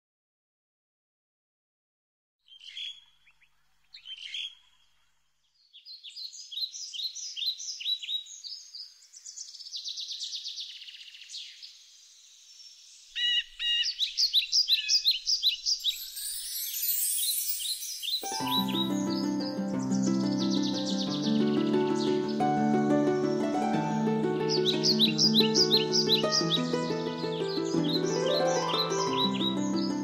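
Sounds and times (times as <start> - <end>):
birds chirping and trilling: 2.5 - 30.0.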